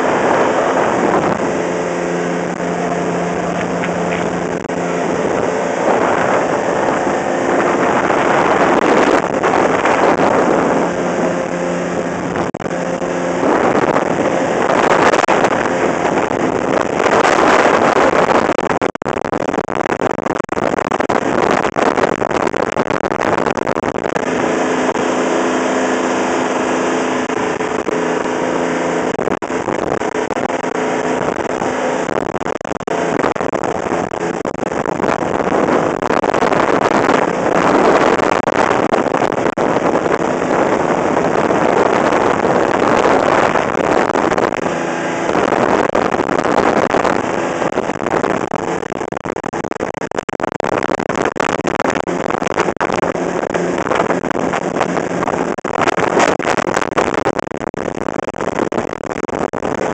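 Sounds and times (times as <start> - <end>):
boat engine hum: 0.0 - 59.9
rush of water and wind: 0.0 - 59.9.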